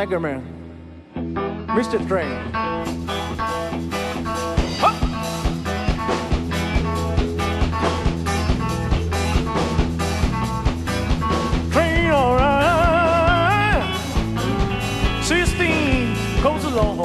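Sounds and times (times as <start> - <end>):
rock band playing: 1.1 - 17.0.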